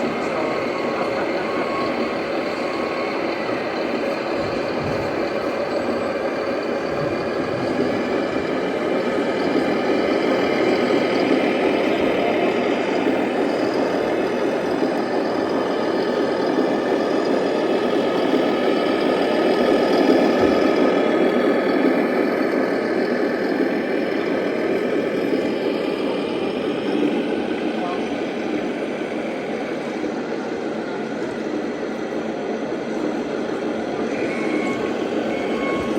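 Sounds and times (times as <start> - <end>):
electronic diesel engine sound: 0.0 - 35.9.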